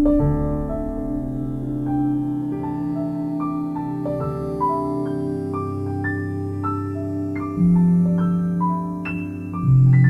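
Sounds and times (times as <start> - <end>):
slow keyboard melody: 0.0 - 10.0
sustained low chord: 0.0 - 10.0.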